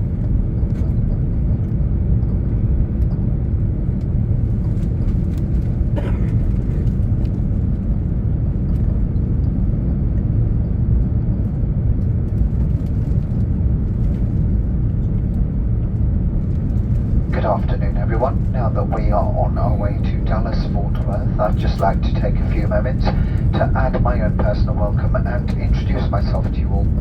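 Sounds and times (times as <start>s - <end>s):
airliner cabin roar: 0.0s - 27.0s.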